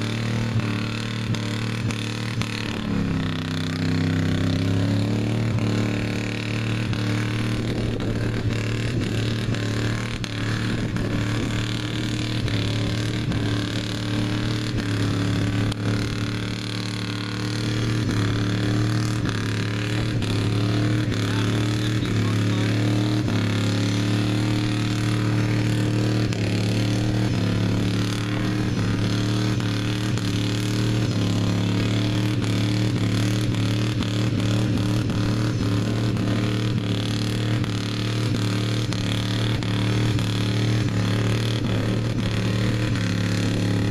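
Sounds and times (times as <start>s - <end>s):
truck engine running hard: 0.0s - 43.9s.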